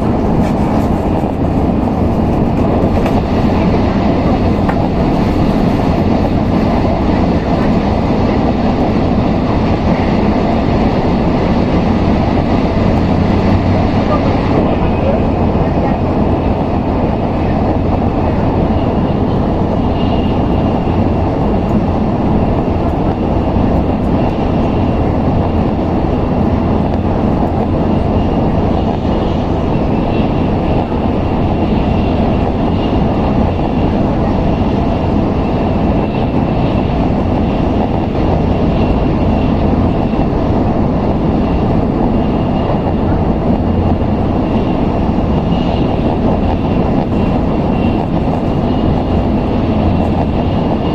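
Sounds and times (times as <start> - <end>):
train running low rumble: 0.0 - 50.9.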